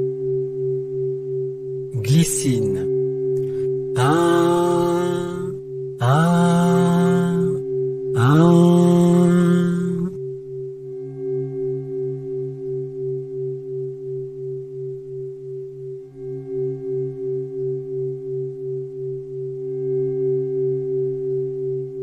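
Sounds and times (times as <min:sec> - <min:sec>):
wavering singing bowl drone: 0:00.0 - 0:22.0.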